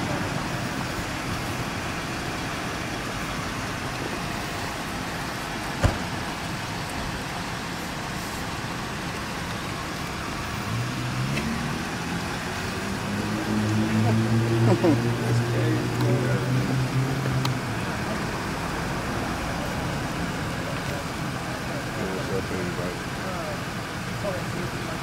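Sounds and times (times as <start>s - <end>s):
motor vehicle noise: 0.0s - 25.0s.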